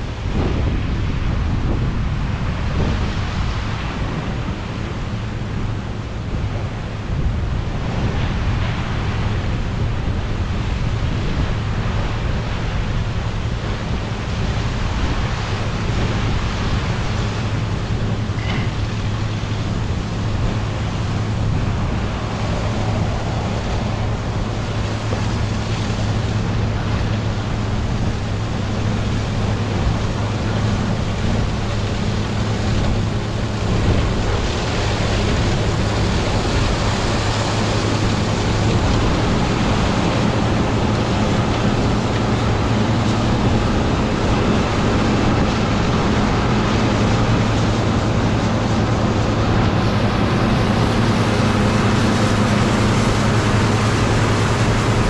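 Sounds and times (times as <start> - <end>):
combine engine hum: 0.0 - 55.0.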